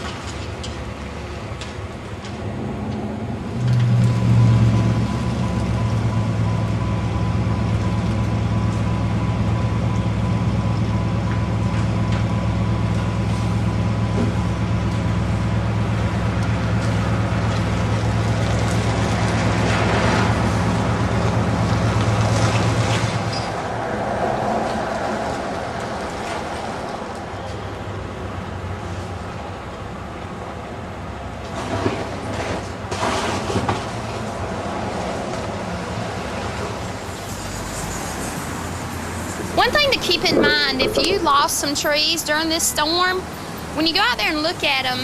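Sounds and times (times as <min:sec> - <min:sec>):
large vehicle engine humming: 0:00.0 - 0:32.9, 0:34.0 - 0:45.0.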